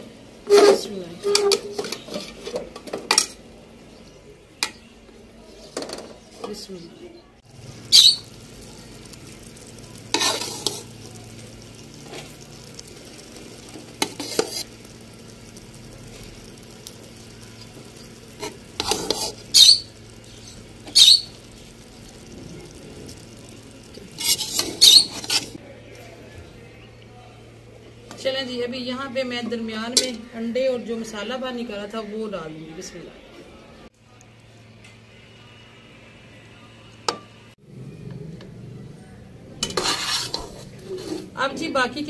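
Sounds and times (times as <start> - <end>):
faint sizzle: 0.0 - 42.0.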